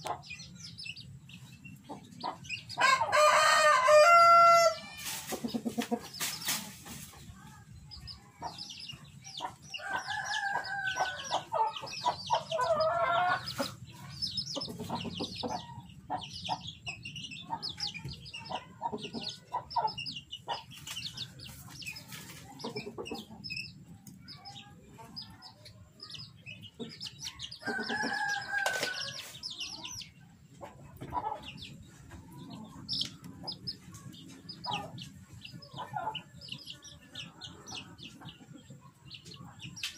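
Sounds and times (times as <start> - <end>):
chicken clucking calls: 0.0 - 39.9.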